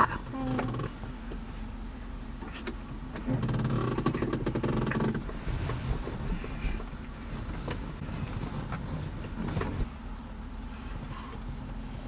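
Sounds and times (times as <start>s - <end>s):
low rumble: 0.0s - 12.0s
motor vehicle running: 0.0s - 12.0s.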